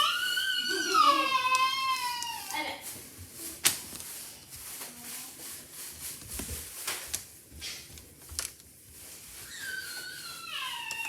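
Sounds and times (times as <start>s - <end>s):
soft rustling: 0.0s - 11.0s.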